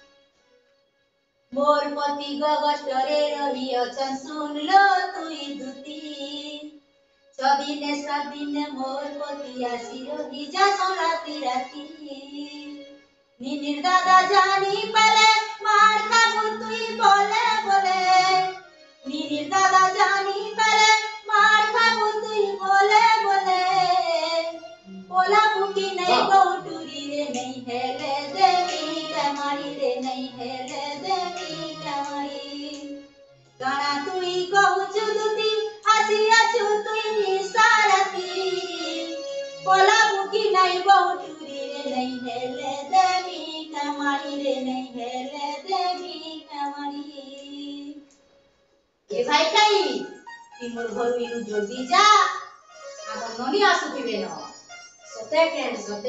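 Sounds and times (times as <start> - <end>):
woman singing unaccompanied: 1.5 - 6.7, 7.4 - 48.1, 49.1 - 52.3.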